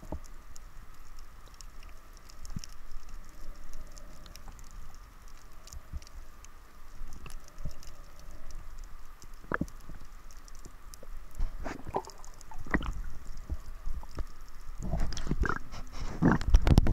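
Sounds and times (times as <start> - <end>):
muffled underwater rumble: 0.0 - 16.9.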